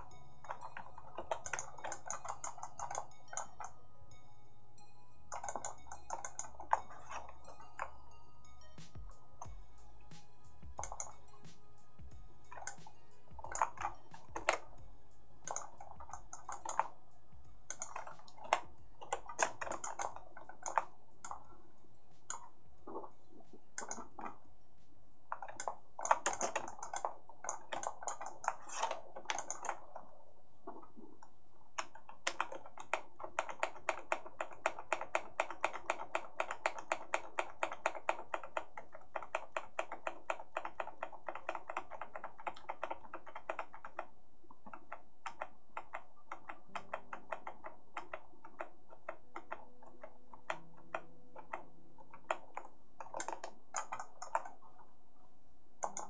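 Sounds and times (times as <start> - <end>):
computer keyboard keys clicking: 0.0 - 3.8, 5.3 - 8.1, 8.8 - 11.7, 12.5 - 14.8, 15.4 - 17.0, 17.6 - 21.6, 22.2 - 24.4, 25.3 - 30.1, 31.8 - 54.6, 55.8 - 56.0.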